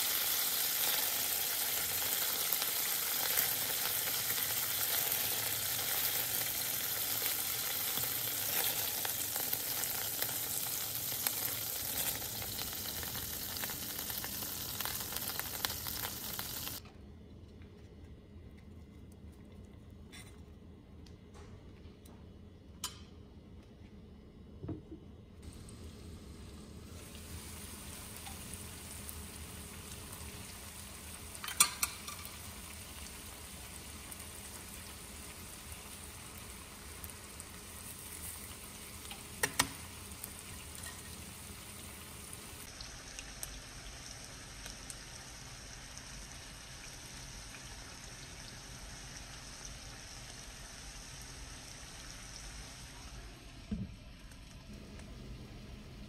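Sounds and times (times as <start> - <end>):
onions sizzling in a pan: 0.0 - 16.8, 25.4 - 56.0.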